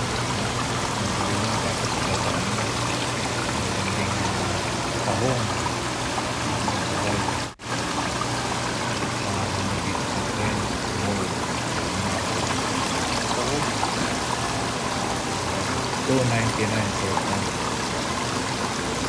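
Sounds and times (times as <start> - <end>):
water pouring and splashing: 0.0 - 19.0.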